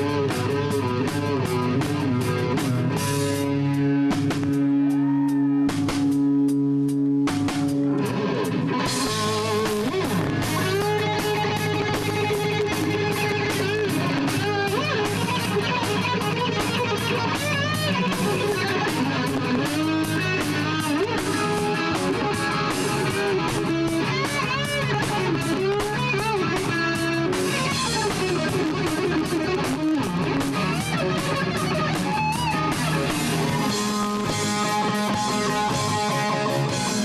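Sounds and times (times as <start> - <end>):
bass guitar: 0.0 - 37.0
electric guitar lead: 0.0 - 37.0
steady drum beat: 0.0 - 37.0.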